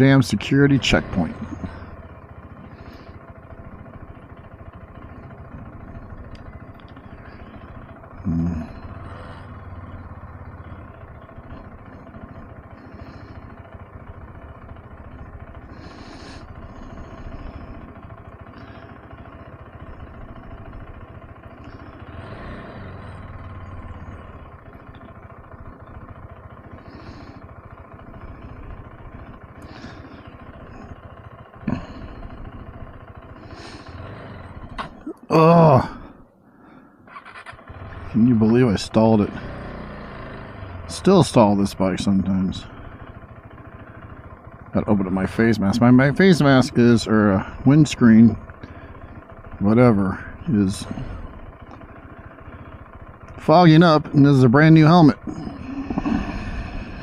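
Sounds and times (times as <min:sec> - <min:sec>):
motorcycle engine running at low revs: 0:00.0 - 0:57.0.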